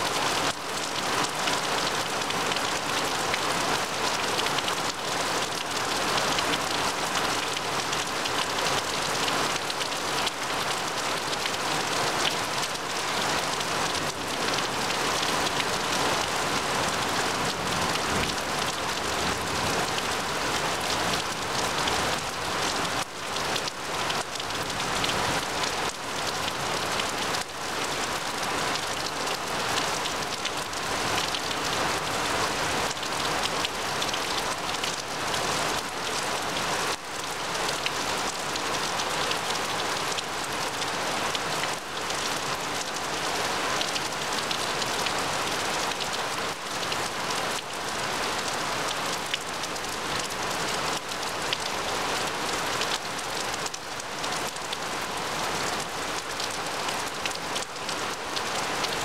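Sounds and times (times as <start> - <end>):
heavy rain on grass and leaves: 0.0 - 59.0.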